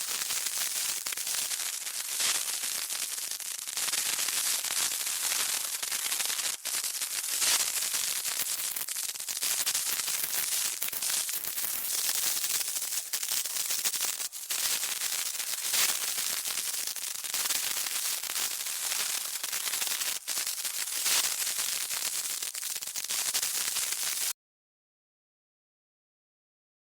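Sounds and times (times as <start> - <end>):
burning fuse sizzling: 0.0 - 24.4.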